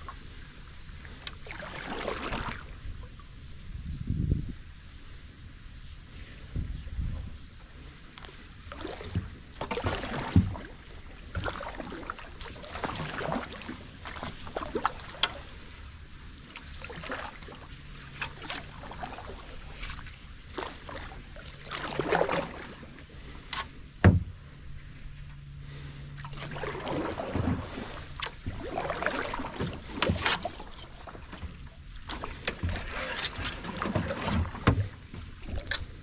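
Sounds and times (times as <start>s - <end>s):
paddle strokes splashing in water: 0.0s - 3.2s, 8.2s - 36.0s.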